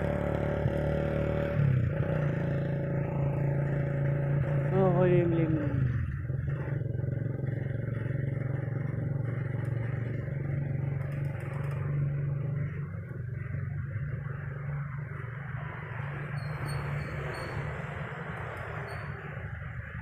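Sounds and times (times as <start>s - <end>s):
motorcycle engine droning: 0.0s - 20.0s.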